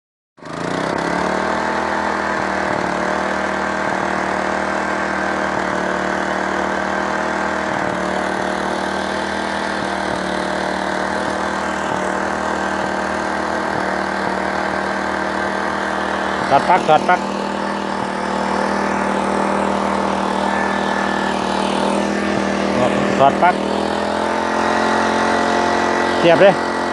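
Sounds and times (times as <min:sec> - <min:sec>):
portable generator engine humming: 0:00.4 - 0:26.9.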